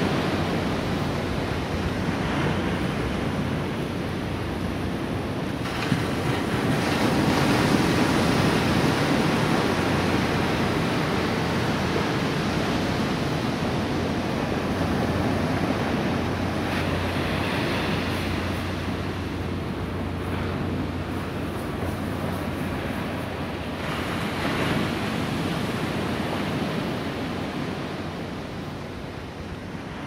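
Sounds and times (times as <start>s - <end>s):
surf washing onto sand: 0.0s - 30.0s.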